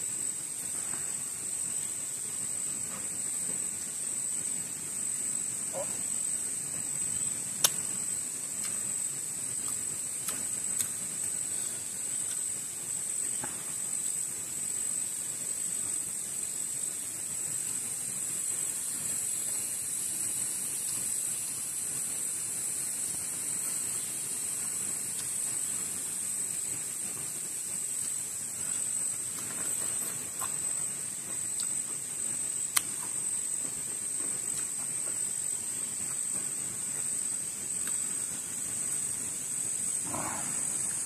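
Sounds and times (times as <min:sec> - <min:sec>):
high-pitched insect drone: 0:00.0 - 0:41.0.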